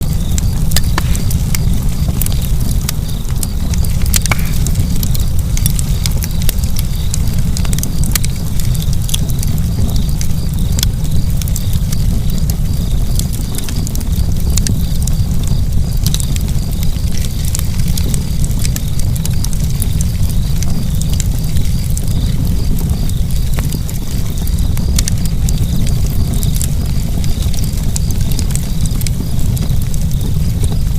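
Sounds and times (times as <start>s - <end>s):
low fire rumble: 0.0s - 30.9s
wood fire crackling and popping: 0.0s - 30.9s.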